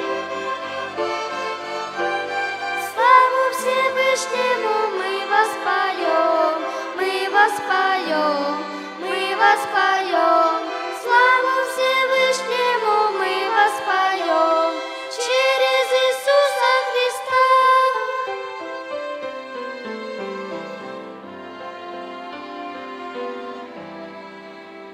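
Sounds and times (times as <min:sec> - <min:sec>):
violin ensemble playing hymn: 0:00.0 - 0:24.9.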